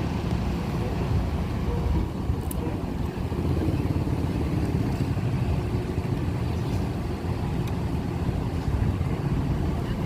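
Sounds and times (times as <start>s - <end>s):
road noise: 0.0s - 10.0s
vehicle engine rumble: 0.0s - 10.0s.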